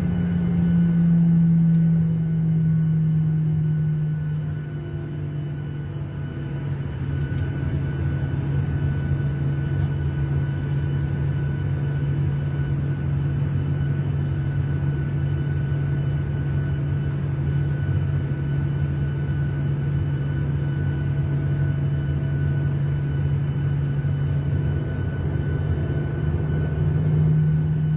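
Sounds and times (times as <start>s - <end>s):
engine and airflow drone: 0.0s - 27.9s.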